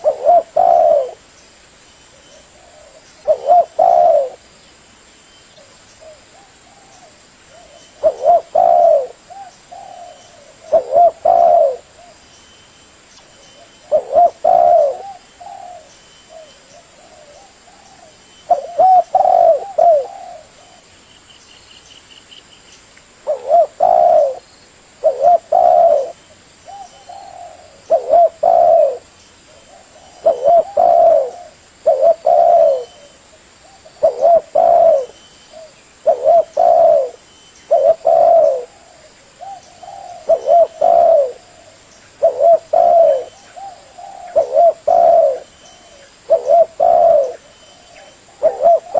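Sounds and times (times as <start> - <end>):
dove cooing: 0.0 - 1.3, 2.3 - 4.4, 5.6 - 12.2, 13.4 - 21.0, 23.2 - 48.9.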